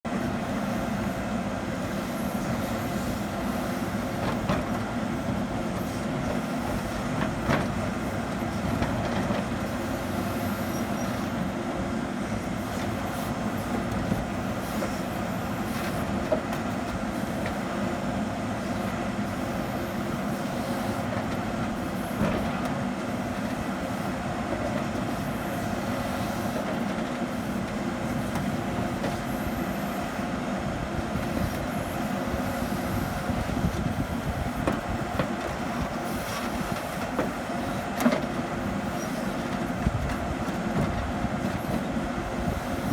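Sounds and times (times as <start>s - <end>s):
diesel engine running under load: 0.1s - 42.9s
hydraulics working digging arm: 0.1s - 42.9s.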